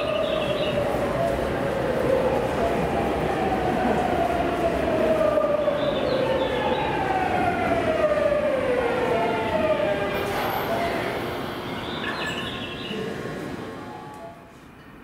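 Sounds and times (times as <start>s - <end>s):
rail running noise: 0.0s - 15.0s.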